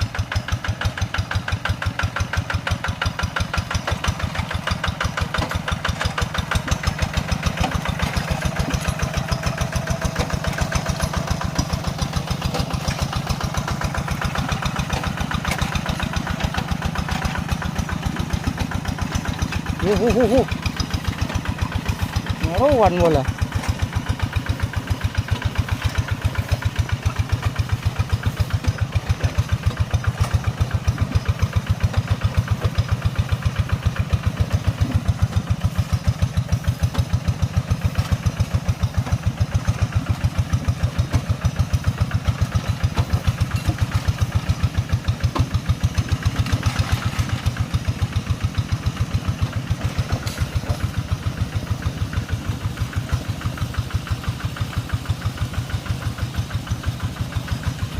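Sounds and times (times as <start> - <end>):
tractor engine idling: 0.0 - 57.9.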